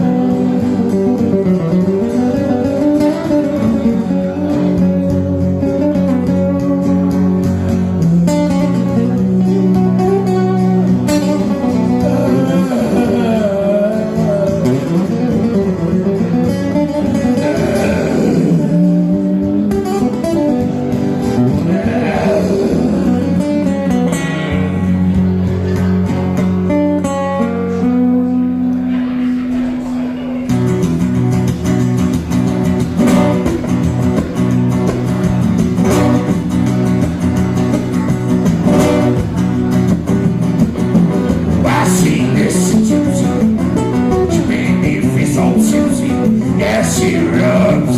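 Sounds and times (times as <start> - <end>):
acoustic guitar music: 0.0 - 47.9.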